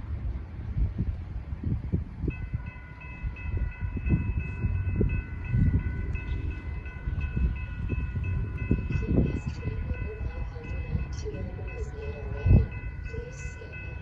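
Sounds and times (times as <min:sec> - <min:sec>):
railroad crossing bell ringing: 0:02.1 - 0:14.0.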